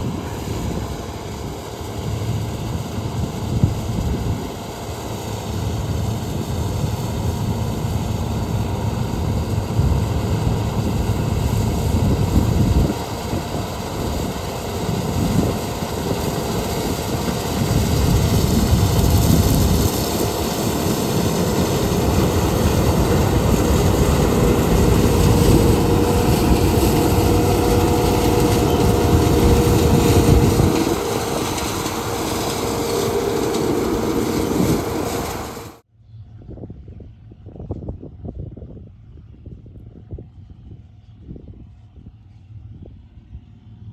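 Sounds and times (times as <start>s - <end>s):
harvest machinery engine rumbling: 0.0s - 35.8s.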